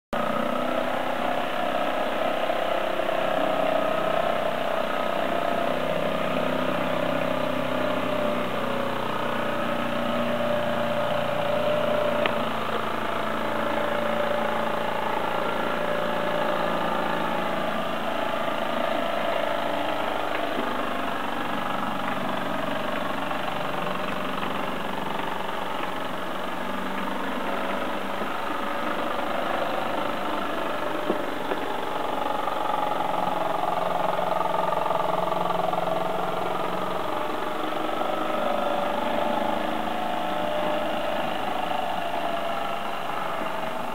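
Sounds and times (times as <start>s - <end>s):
toy steam engine running: 0.2s - 43.9s.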